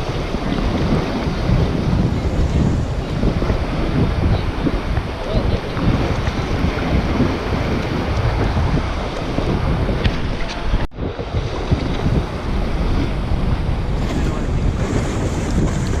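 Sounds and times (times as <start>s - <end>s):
water splashing and lapping: 0.0s - 16.0s
wind buffeting microphone: 0.0s - 16.0s.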